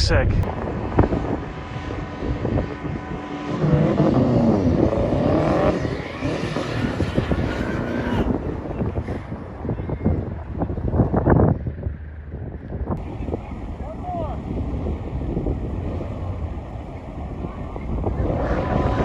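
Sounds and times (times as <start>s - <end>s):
car engine accelerating: 0.0s - 19.0s
road noise: 0.0s - 19.0s.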